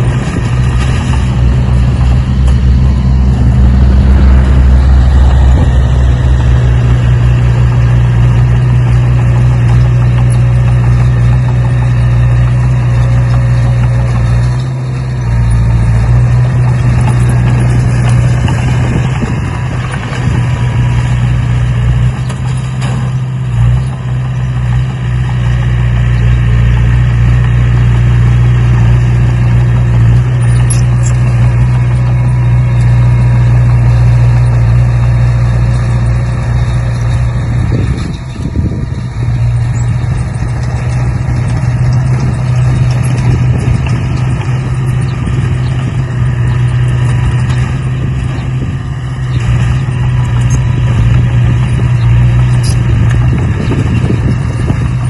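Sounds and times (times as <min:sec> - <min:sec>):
engine-like drone: 0:00.0 - 0:55.0.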